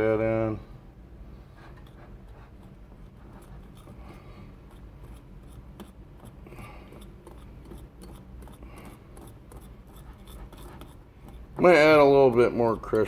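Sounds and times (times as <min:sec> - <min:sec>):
whisk scraping batter in a bowl: 0:01.4 - 0:13.0.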